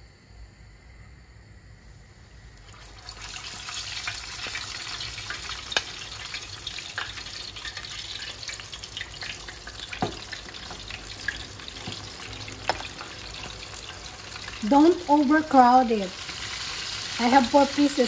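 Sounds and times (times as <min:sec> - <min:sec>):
chicken deep-frying in oil: 0:02.6 - 0:18.0.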